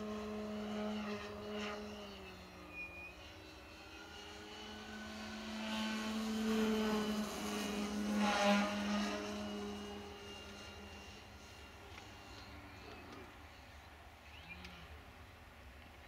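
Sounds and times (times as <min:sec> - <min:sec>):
model plane motor and propeller drone: 0:00.0 - 0:16.0.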